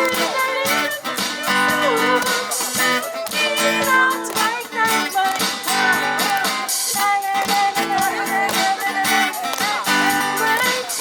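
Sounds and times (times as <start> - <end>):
guitar strumming chords: 0.0 - 11.0
live band playing: 0.0 - 11.0.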